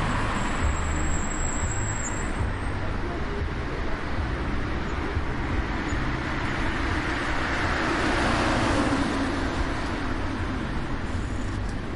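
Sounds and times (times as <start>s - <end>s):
traffic rumble and tyre noise: 0.0s - 11.9s.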